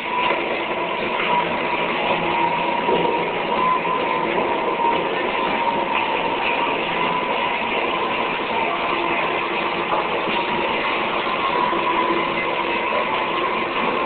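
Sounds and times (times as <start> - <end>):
electronic noise drone: 0.0 - 14.0.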